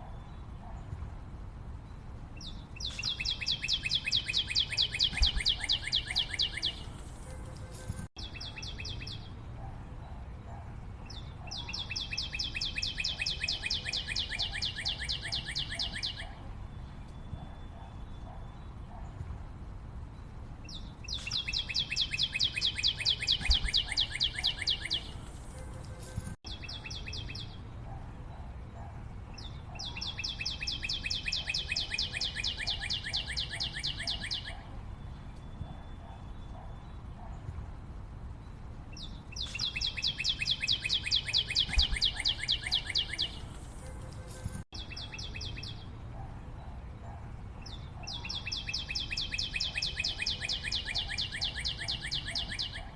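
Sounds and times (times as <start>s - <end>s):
faint forest background: 0.0s - 52.9s.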